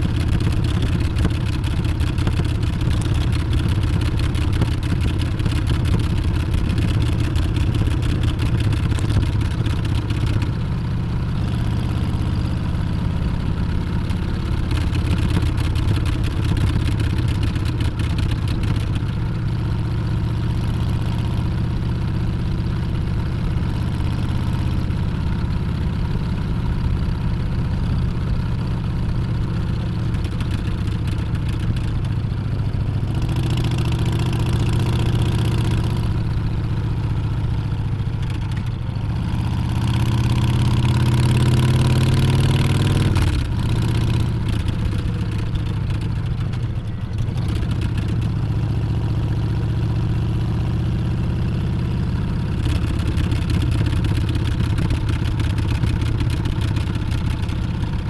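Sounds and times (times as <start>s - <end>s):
wind and road noise: 0.0s - 19.5s, 22.9s - 58.0s
motorcycle engine running: 0.0s - 58.0s.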